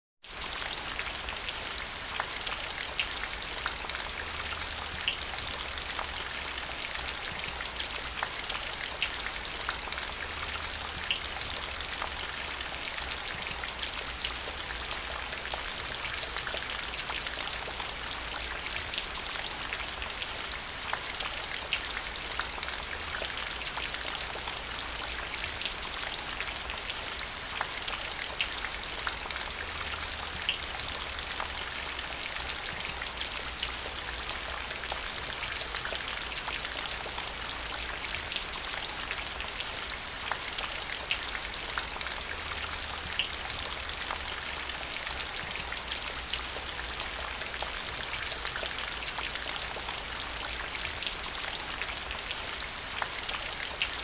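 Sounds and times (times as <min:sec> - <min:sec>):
rain on wet paving: 0:00.2 - 0:54.0.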